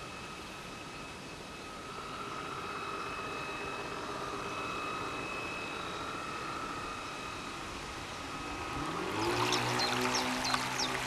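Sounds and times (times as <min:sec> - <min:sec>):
electric motor and propeller whining: 0:00.0 - 0:11.0.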